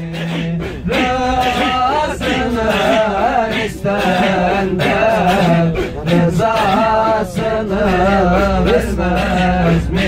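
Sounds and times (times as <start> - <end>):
men singing a hymn: 0.0 - 10.0.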